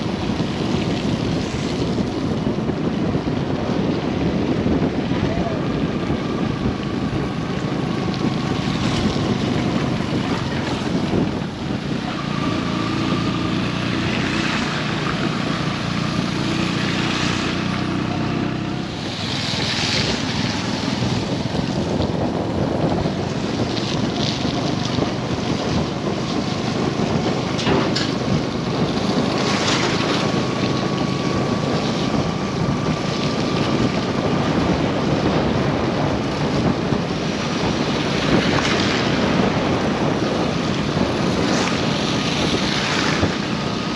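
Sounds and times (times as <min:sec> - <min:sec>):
nearby vehicle engine running: 0:00.0 - 0:43.9
road traffic: 0:00.0 - 0:43.9
wind buffeting microphone: 0:00.0 - 0:43.9.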